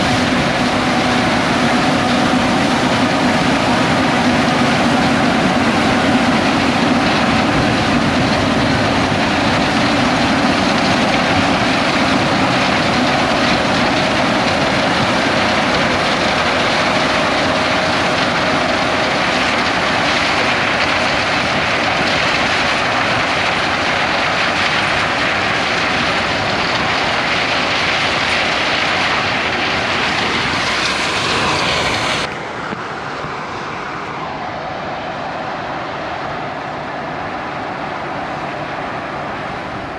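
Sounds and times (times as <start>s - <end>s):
combine harvester machinery noise: 0.0s - 39.9s.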